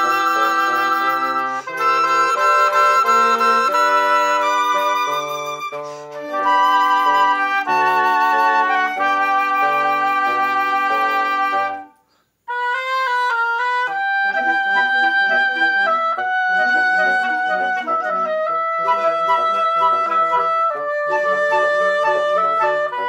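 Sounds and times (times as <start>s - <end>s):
woodwind quintet playing: 0.0s - 23.0s.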